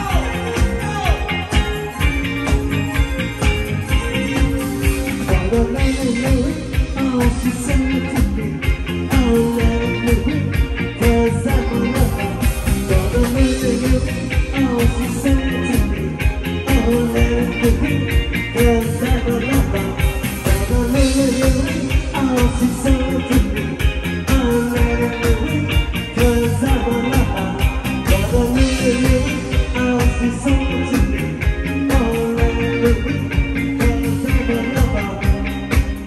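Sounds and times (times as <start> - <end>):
man singing into microphone: 0.0 - 2.5, 5.1 - 36.0
live band playing pop song: 0.0 - 36.0.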